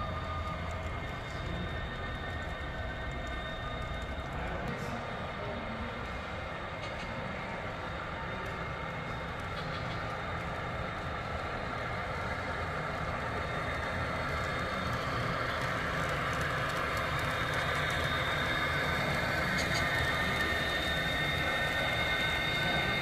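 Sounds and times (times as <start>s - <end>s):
train wheels rolling on track: 0.0s - 23.0s.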